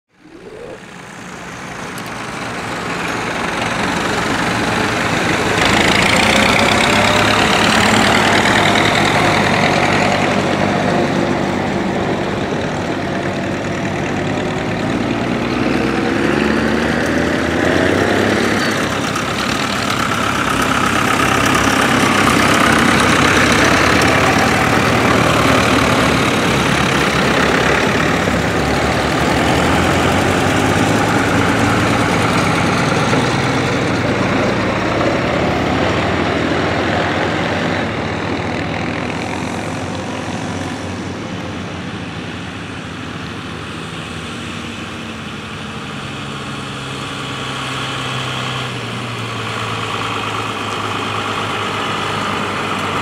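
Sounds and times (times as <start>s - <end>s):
tractor engines passing: 0.1s - 53.0s.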